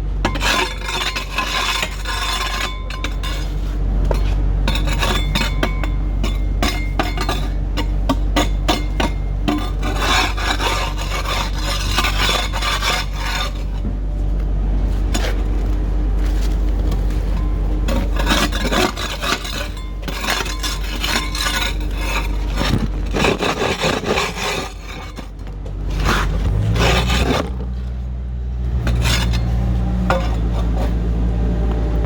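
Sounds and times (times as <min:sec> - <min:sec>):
engine humming: 0:00.0 - 0:23.2, 0:24.7 - 0:32.0
low machine rumble: 0:00.0 - 0:32.0
rough scraping strokes: 0:00.3 - 0:14.0, 0:14.8 - 0:31.4.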